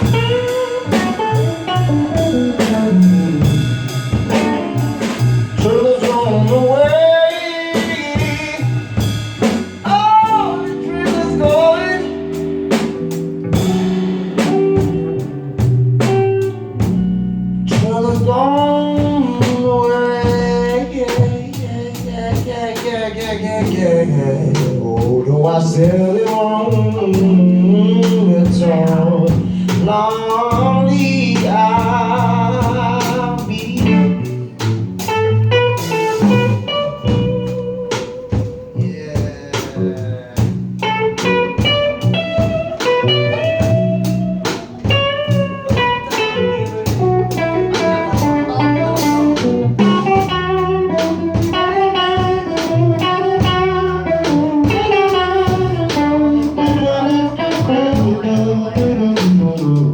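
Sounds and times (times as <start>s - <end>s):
bass line: 0.0s - 59.9s
drum kit beat: 0.0s - 59.9s
guitar: 0.0s - 59.9s.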